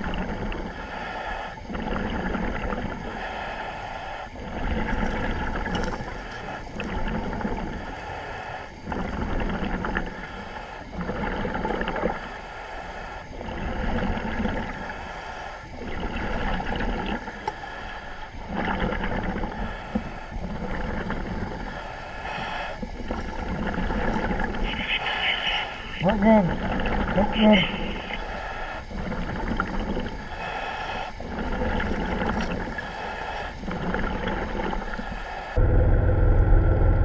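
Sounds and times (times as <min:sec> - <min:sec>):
diver breathing over radio: 0:00.0 - 0:35.6.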